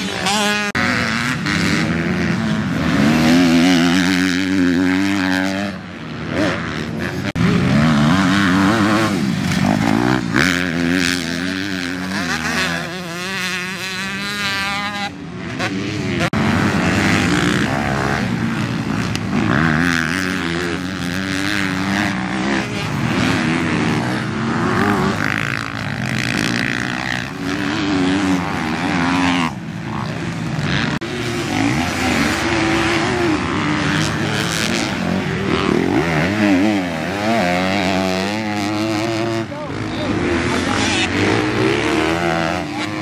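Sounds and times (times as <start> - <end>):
motocross bike engines revving: 0.0 - 43.0.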